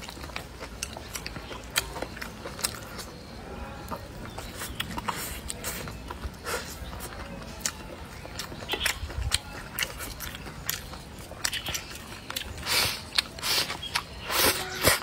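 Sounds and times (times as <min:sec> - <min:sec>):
person chewing and lip smacking: 0:00.0 - 0:15.0.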